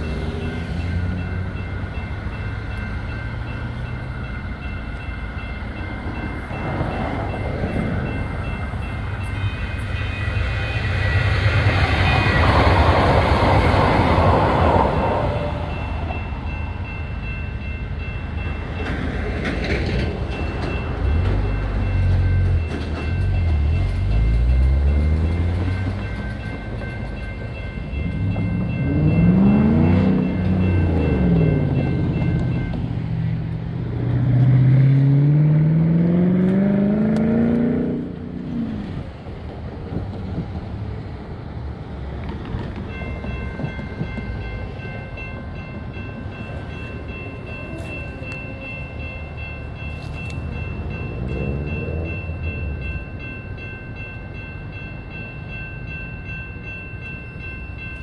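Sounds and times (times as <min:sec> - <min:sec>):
light rail train passing: 0:00.0 - 0:58.0.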